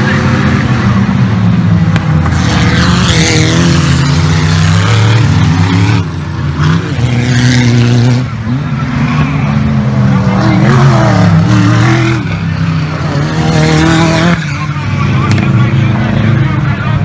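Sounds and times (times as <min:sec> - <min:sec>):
racing engine running hard: 0:00.0 - 0:17.0.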